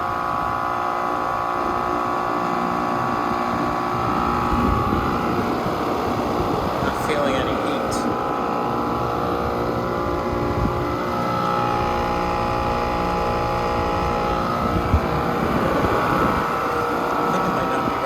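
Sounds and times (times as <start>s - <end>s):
compressor humming: 0.0s - 18.0s.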